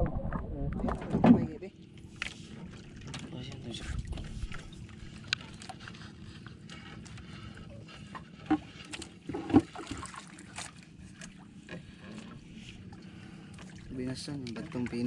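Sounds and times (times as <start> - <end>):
water lapping around boat: 0.0 - 15.0.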